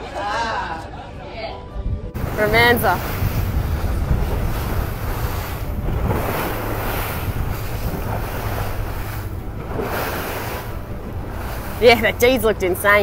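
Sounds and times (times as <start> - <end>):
wind buffeting microphone: 1.8 - 13.0
water splashing along boat hull: 2.2 - 13.0.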